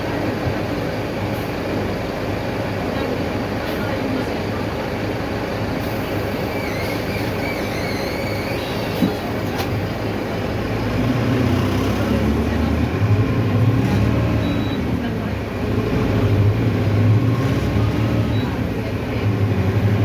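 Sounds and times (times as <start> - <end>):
bus diesel engine: 0.0 - 20.0
road rumble: 0.0 - 20.0.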